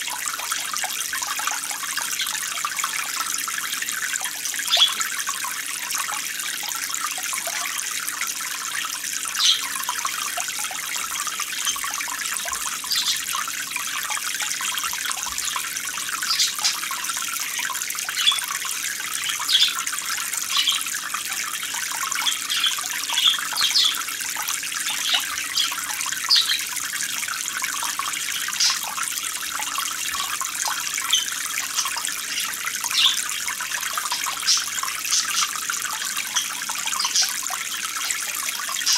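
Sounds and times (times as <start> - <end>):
running water splashing: 0.0 - 38.9
water gurgles and drips: 0.0 - 38.9.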